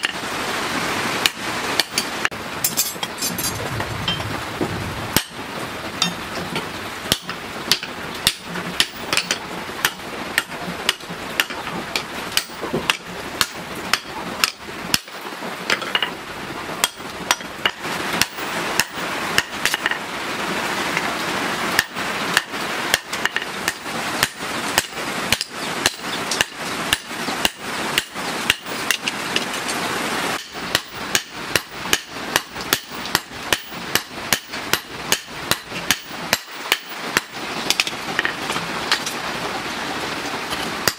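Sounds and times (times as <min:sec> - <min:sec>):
hammer striking hot steel on anvil: 0:01.2 - 0:04.3, 0:05.1 - 0:05.4, 0:06.0 - 0:16.2, 0:16.8 - 0:20.0, 0:21.8 - 0:29.5, 0:30.4 - 0:39.1.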